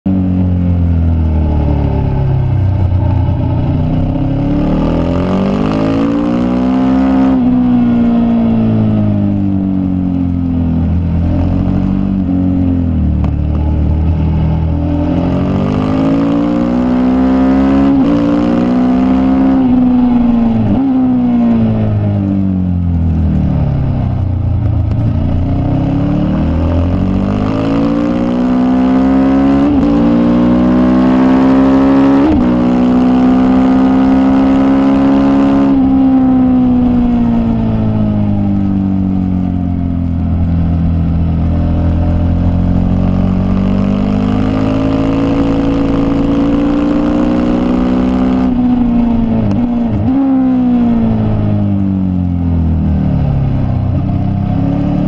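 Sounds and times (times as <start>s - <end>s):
racing motorcycle engine revving: 0.1s - 55.0s.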